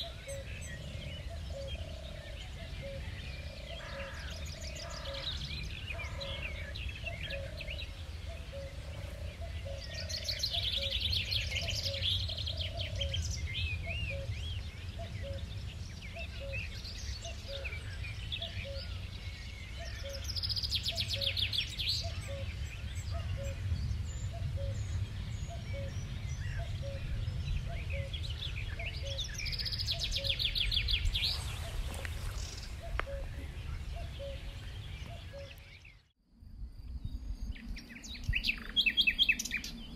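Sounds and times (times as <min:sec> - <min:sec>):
songbird trilling: 0:00.0 - 0:23.6, 0:25.5 - 0:36.0.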